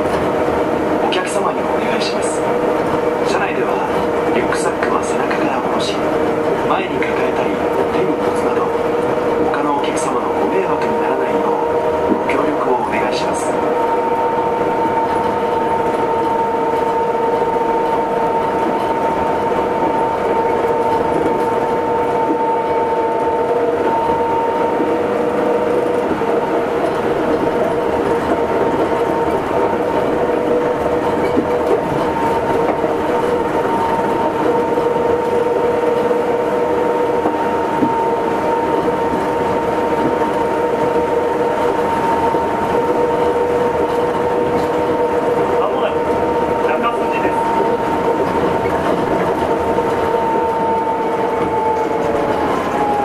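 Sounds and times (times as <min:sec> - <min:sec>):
train rolling rumble: 0:00.0 - 0:53.0.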